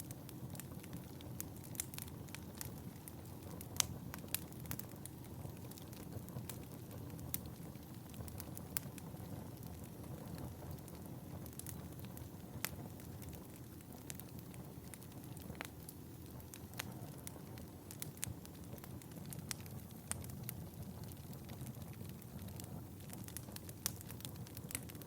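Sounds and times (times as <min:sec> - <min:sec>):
low rumble of flames: 0:00.0 - 0:25.0
wood fire crackling: 0:00.0 - 0:25.0
fire pops: 0:00.5 - 0:25.0.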